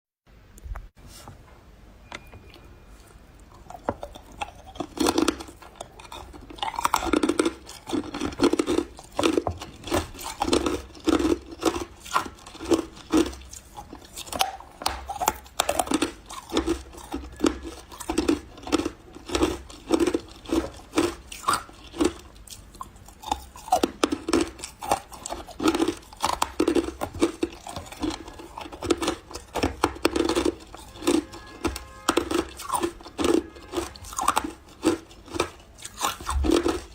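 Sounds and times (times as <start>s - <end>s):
chewing ice crunches: 3.0s - 36.9s.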